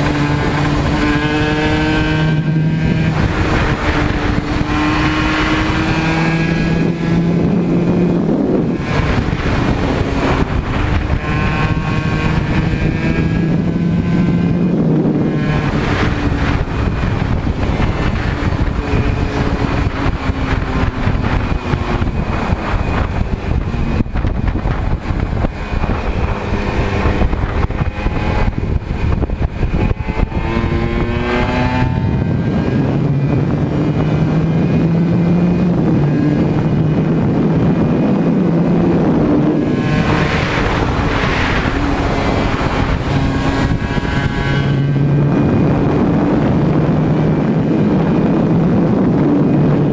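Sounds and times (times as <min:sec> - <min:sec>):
two-stroke engine at full throttle: 0:00.0 - 0:49.9.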